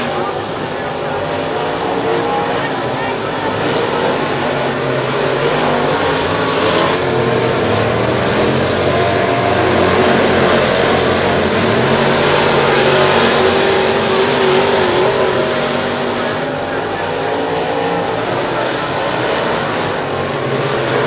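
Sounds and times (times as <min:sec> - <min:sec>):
race car engines racing: 0:00.0 - 0:21.0.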